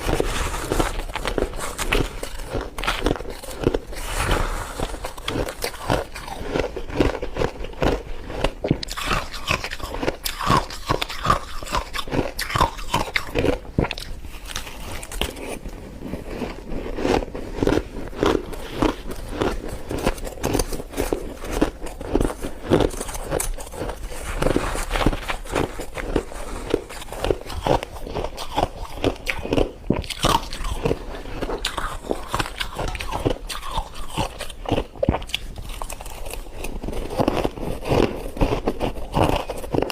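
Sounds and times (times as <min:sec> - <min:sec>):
person crunching frost: 0:00.0 - 0:39.9.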